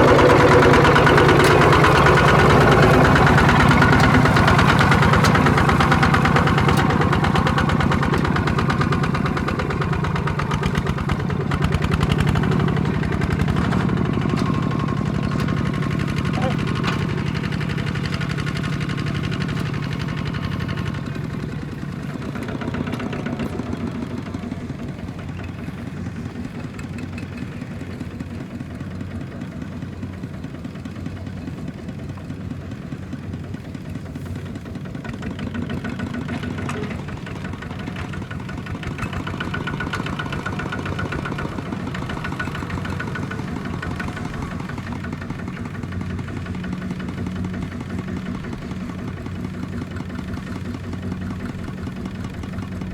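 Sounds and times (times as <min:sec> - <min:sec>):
diesel engine chugging: 0:00.0 - 0:52.9.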